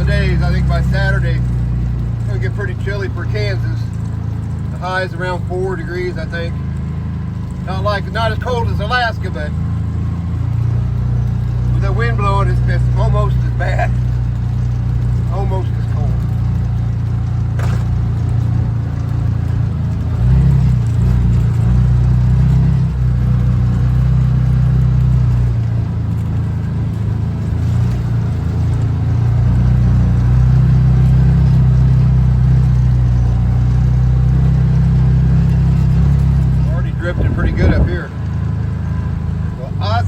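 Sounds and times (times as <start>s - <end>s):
engine and road noise: 0.0s - 40.0s.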